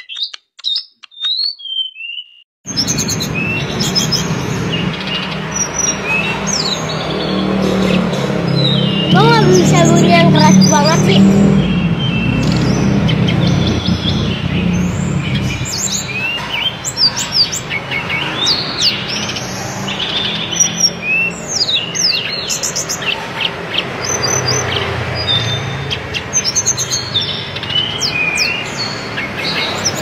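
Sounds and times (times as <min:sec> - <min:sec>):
bird singing chirps and trills: 0:00.0 - 0:30.0.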